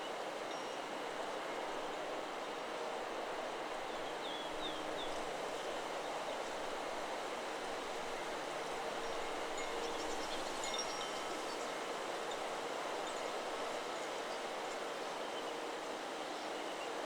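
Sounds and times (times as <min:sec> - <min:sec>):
wind rustling in trees: 0:00.0 - 0:17.0.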